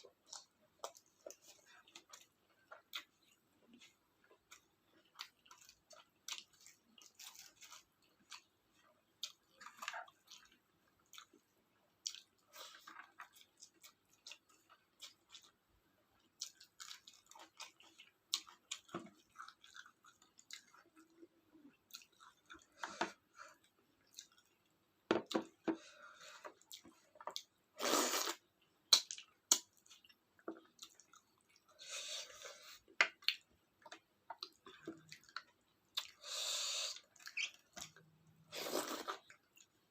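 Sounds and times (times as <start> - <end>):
chewing and wet mouth sounds: 0.0 - 25.6, 26.2 - 39.9.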